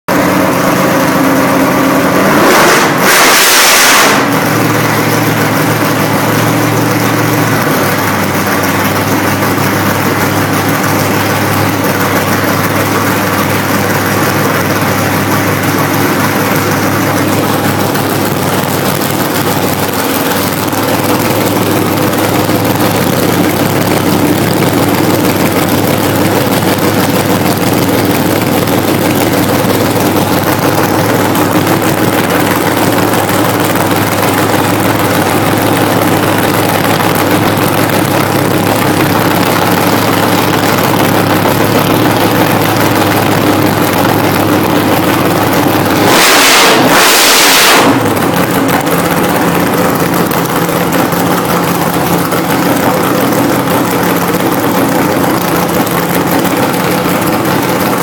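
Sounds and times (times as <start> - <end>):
engine running loudly and revving: 0.0 - 58.0.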